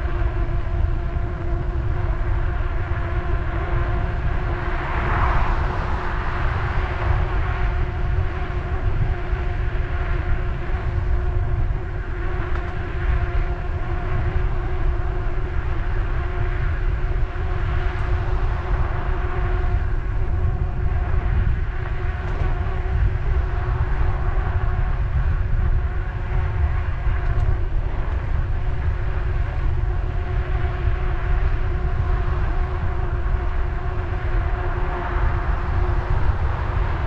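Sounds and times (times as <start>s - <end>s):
steady hum: 0.0s - 37.0s
wind rumbling on microphone: 0.0s - 37.0s.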